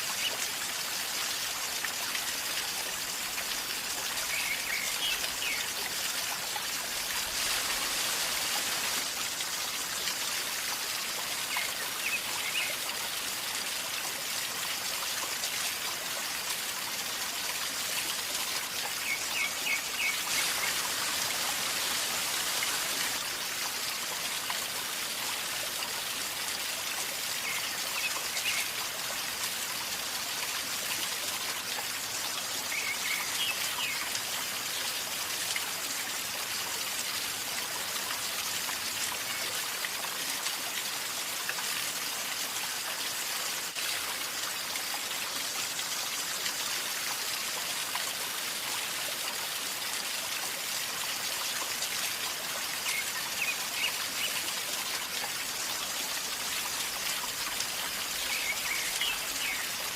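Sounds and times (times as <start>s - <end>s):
river water gurgling: 0.0s - 59.9s.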